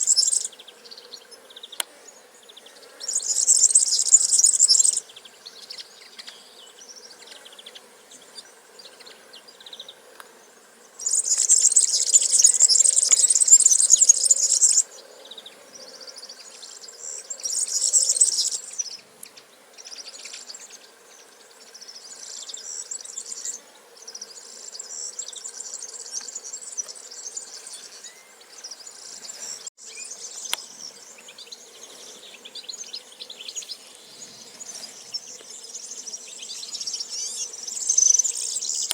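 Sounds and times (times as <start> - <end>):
birds chirping: 0.0 - 10.0, 11.0 - 38.9.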